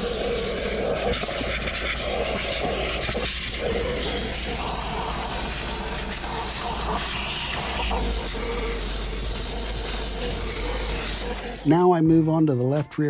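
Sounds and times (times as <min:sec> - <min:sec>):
vacuum cleaner running: 0:00.0 - 0:11.8
steam cleaner hissing: 0:00.0 - 0:12.3.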